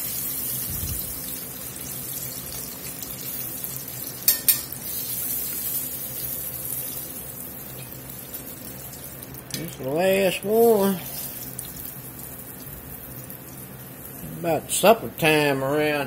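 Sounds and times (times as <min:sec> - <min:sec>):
chicken deep-frying in oil: 0:00.0 - 0:15.3.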